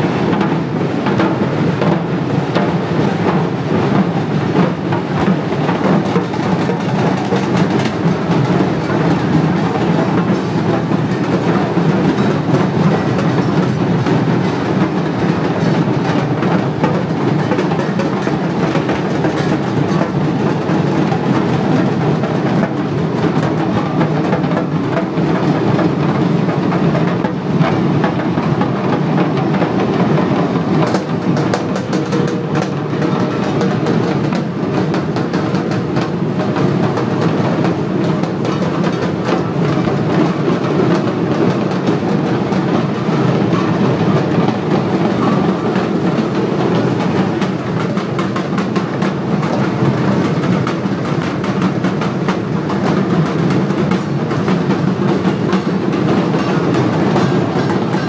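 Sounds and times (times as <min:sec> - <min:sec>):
rapid drumming: 0:00.0 - 0:58.0.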